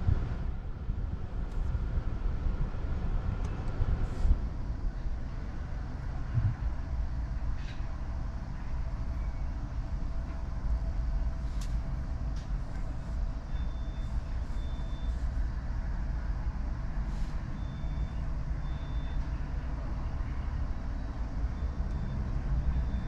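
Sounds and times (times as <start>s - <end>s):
low vehicle rumble: 0.0s - 23.0s.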